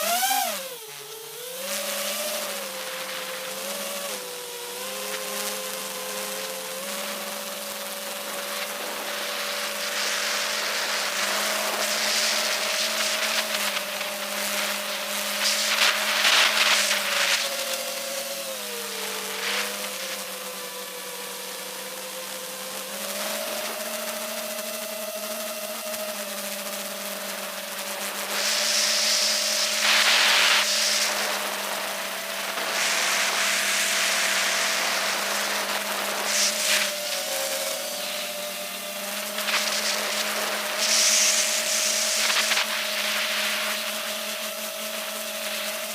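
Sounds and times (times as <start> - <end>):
drone motors whining: 0.0 - 45.9
propeller and wind hiss: 0.0 - 45.9.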